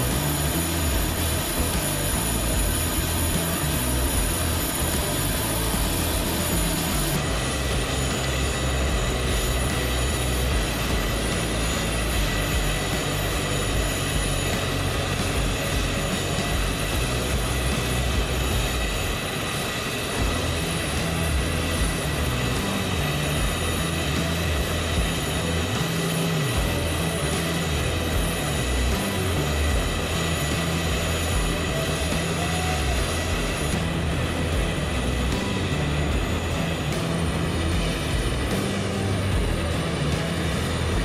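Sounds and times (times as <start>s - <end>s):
turboprop engines running: 0.0s - 41.0s.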